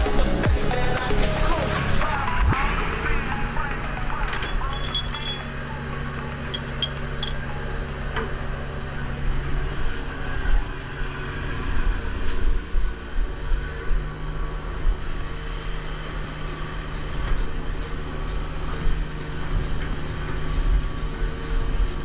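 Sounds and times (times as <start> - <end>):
boat engine droning: 0.8 - 22.0.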